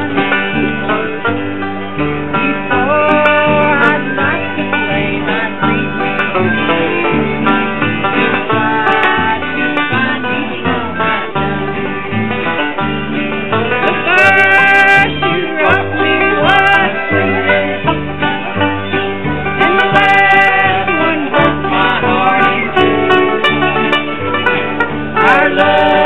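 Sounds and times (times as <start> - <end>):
bass line: 0.0 - 26.0
country music with plucked strings: 0.0 - 26.0.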